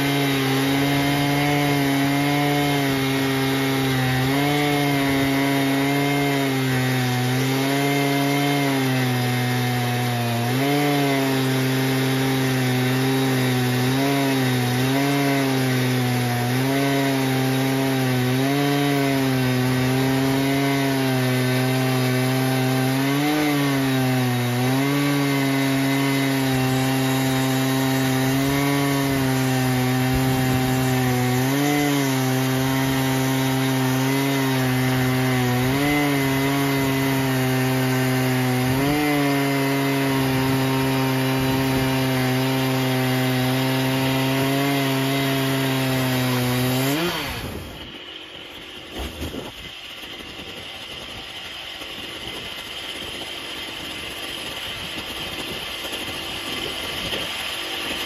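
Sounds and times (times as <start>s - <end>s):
chainsaw ripping a log: 0.0s - 58.0s.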